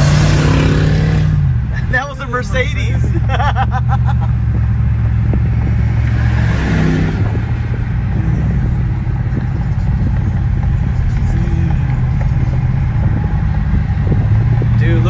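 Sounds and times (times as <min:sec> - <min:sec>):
car engine drone from inside: 0:00.0 - 0:15.0.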